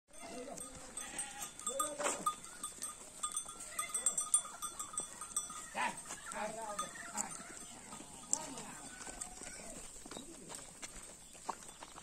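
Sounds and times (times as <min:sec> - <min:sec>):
goats bleating: 0:00.1 - 0:09.9.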